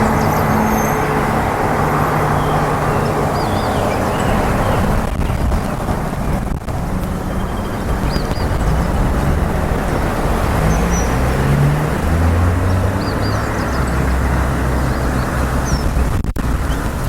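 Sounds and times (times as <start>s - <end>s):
road traffic rumble: 0.0s - 17.0s
small birds chirping: 0.0s - 17.0s.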